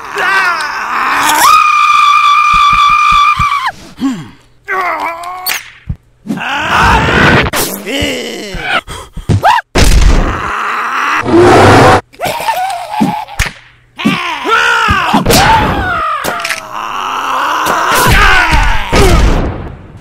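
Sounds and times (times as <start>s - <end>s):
cartoon characters crying and groaning: 0.0s - 5.5s, 6.3s - 13.4s, 14.0s - 19.4s.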